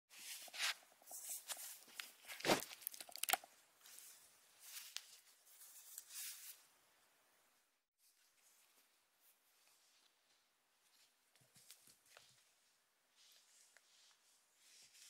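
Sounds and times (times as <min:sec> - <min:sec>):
soft toys rustling: 0:00.1 - 0:06.8, 0:08.0 - 0:15.0.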